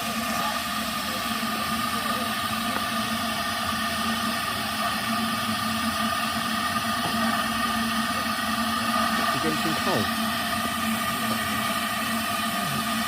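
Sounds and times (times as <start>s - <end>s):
mechanical whir: 0.0s - 13.0s.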